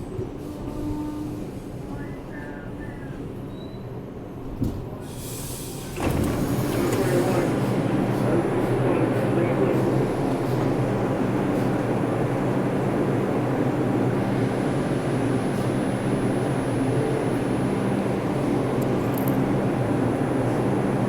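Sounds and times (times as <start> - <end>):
subway train wheels rumbling on rails: 0.0 - 21.0.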